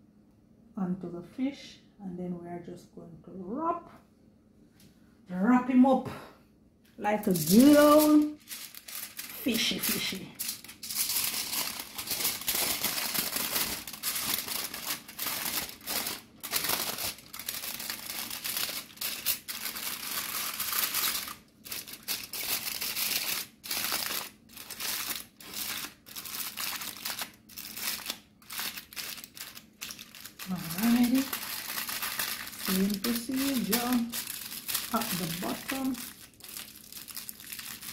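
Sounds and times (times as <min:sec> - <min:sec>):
aluminium foil crinkling: 0:07.1 - 0:37.9.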